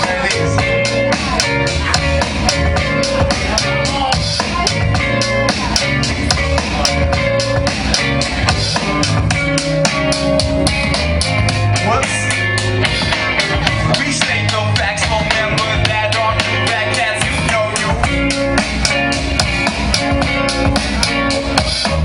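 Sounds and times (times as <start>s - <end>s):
bass and guitar: 0.0s - 22.0s
drum kit beat: 0.0s - 22.0s.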